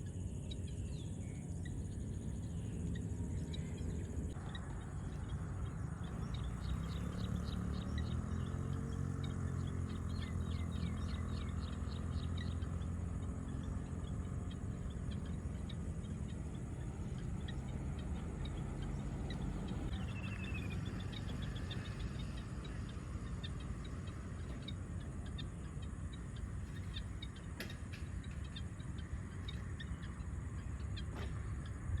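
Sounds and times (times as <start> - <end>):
birds chirping: 0.0 - 32.0
low engine hum: 0.0 - 32.0.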